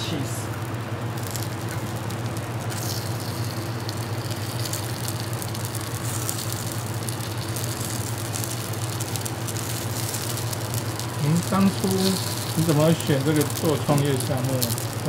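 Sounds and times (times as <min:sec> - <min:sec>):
cheese sizzling in a pan: 0:00.0 - 0:15.0
low machine hum: 0:00.0 - 0:15.0.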